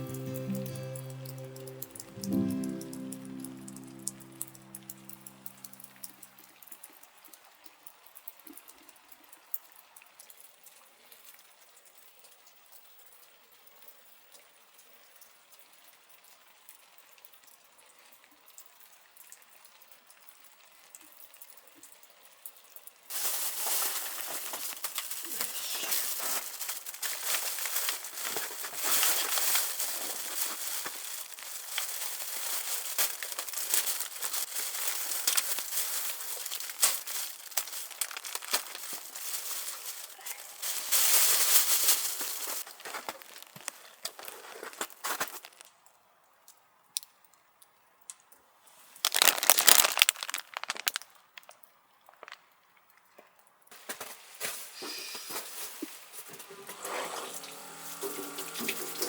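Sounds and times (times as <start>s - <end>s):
rain on a canvas tent: 0.0s - 59.0s.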